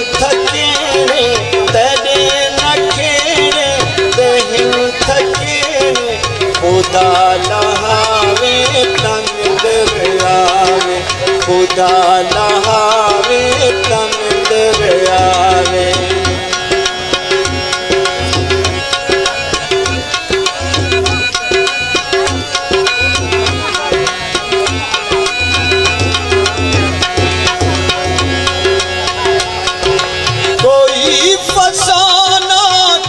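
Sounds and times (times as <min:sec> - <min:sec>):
hand-drum beat: 0:00.0 - 0:33.0
harmonium melody: 0:00.0 - 0:33.0.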